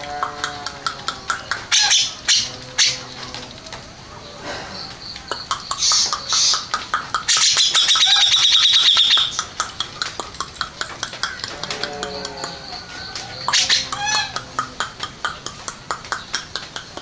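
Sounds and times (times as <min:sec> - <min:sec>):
rapid bird trill: 0:00.0 - 0:16.5
bird singing: 0:00.0 - 0:17.0.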